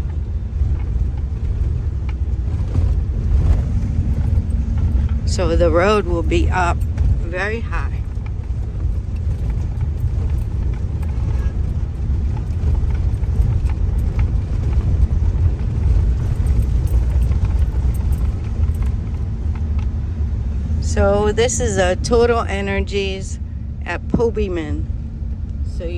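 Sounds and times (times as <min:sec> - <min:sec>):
vehicle rumbling along road: 0:00.0 - 0:25.9.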